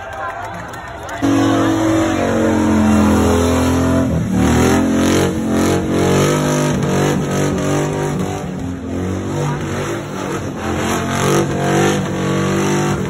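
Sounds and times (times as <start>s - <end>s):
truck engine revving: 1.2s - 13.0s.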